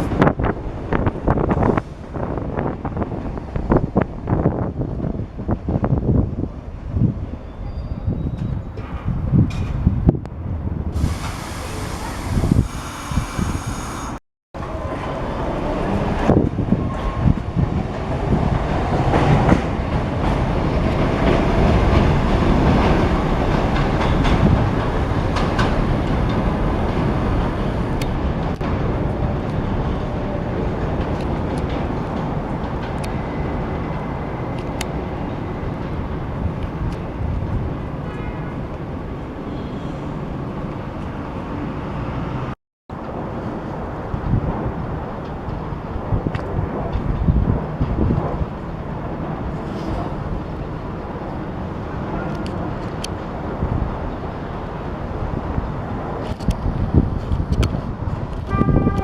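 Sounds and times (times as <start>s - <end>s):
subway train rumbling: 0.0s - 59.0s.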